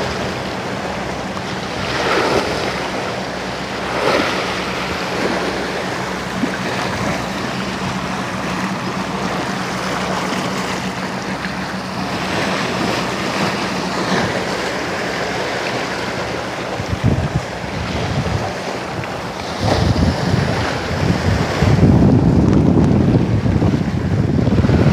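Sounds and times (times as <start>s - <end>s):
steady low hum: 0.0s - 24.9s
waves washing against rocks: 0.0s - 24.9s
wind buffeting microphone: 0.0s - 24.9s.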